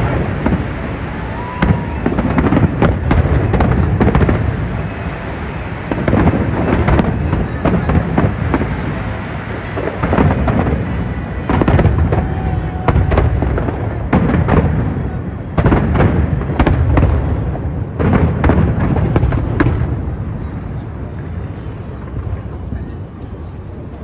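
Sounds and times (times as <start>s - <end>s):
echoing booms: 0.0s - 20.2s
fireworks sharp bangs: 0.0s - 21.0s.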